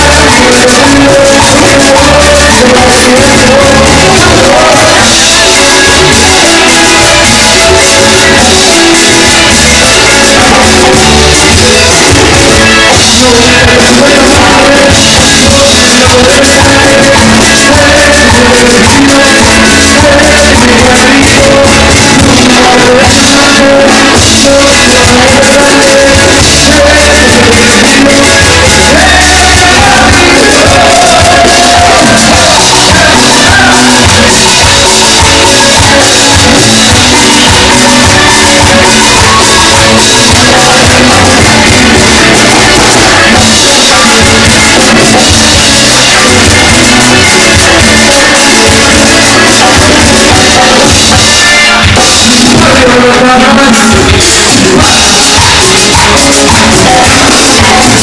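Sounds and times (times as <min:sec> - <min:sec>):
live cumbia band playing: 0:00.0 - 0:58.0
man singing: 0:00.0 - 0:58.0.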